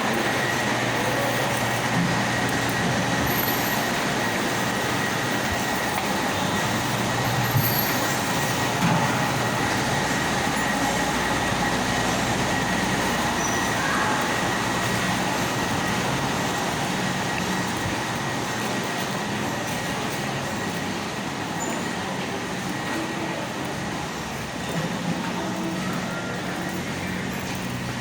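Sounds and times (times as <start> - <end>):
mechanical running noise: 0.0 - 28.0.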